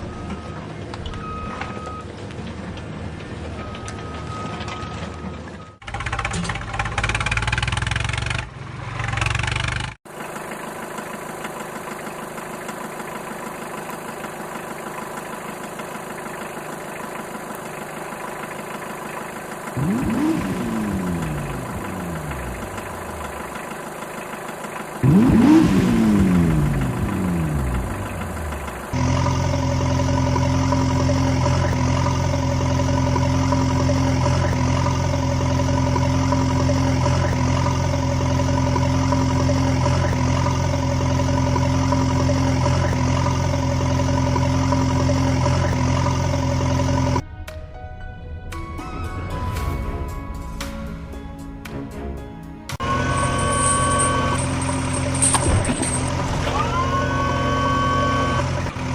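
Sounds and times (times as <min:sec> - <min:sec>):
steady engine drone: 0:00.0 - 0:47.2, 0:52.7 - 0:58.9.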